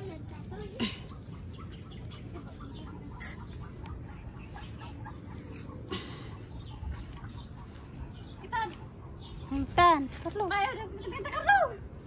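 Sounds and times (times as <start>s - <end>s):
poultry calling: 0.0s - 11.5s.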